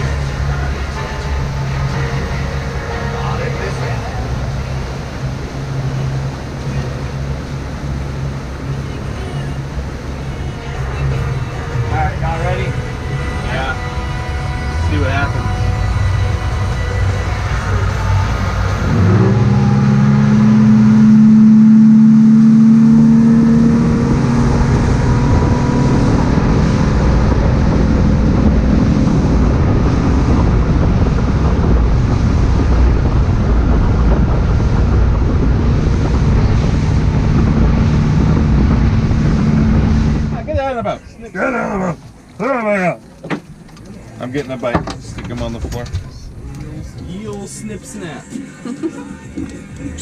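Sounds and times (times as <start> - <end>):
rushing wind: 0.0 - 48.6
boat engine running: 0.0 - 50.0
water noise: 0.0 - 50.0.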